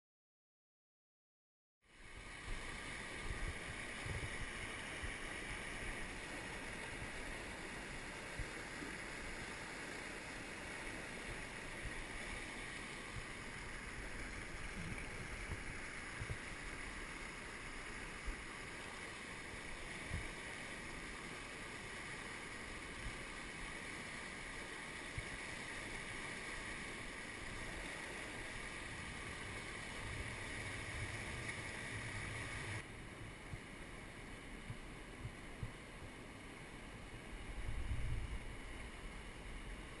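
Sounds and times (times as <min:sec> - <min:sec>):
river rushing over rocks: 0:02.0 - 0:35.2.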